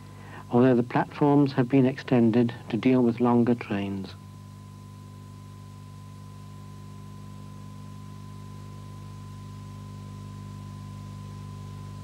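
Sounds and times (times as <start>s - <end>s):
held low tones humming: 0.0s - 12.0s.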